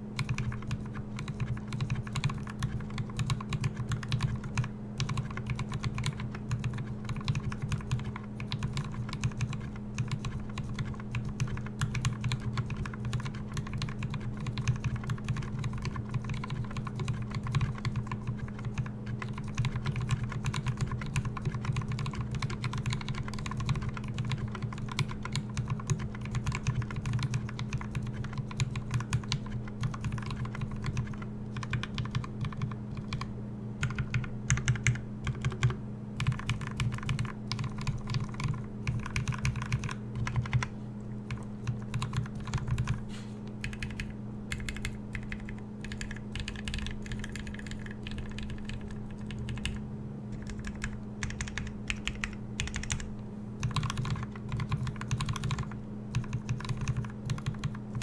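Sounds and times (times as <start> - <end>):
mechanical keyboard typing: 0.0 - 40.7, 41.3 - 43.0, 43.6 - 58.0
numpad keystrokes: 0.0 - 40.7, 41.3 - 43.0, 43.6 - 58.0
steady low hum: 0.0 - 58.0.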